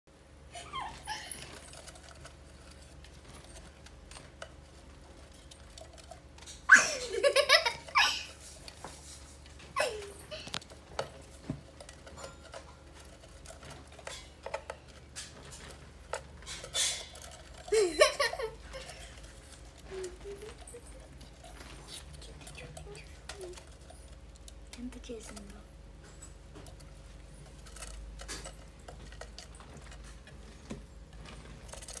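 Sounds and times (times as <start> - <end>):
low steady hum: 0.1 - 32.0
bird pecking and scratching: 0.8 - 32.0.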